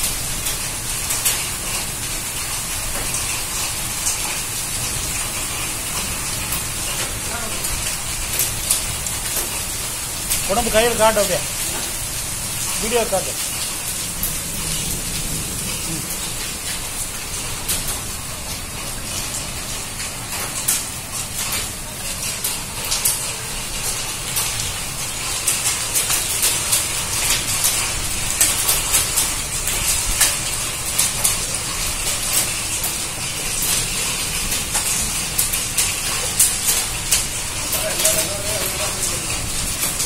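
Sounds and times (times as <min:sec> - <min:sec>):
hailstones striking hard surfaces: 0:00.0 - 0:40.0
hiss of downpour: 0:00.0 - 0:40.0.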